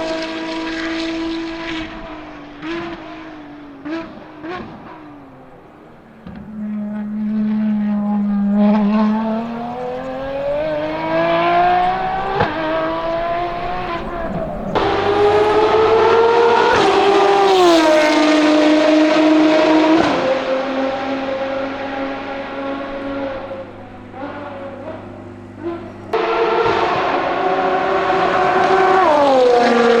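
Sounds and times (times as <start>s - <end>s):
race car engine accelerating: 0.0s - 30.0s.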